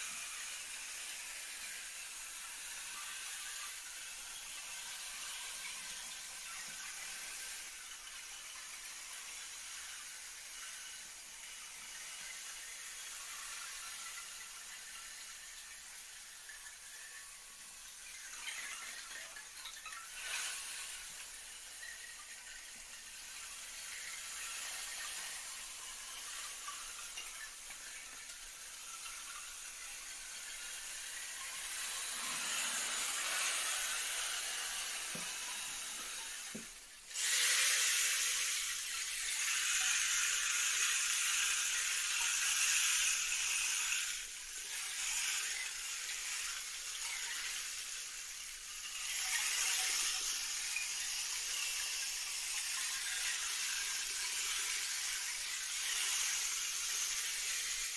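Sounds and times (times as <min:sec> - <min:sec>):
percussion shaker hissing: 0:00.0 - 0:57.9.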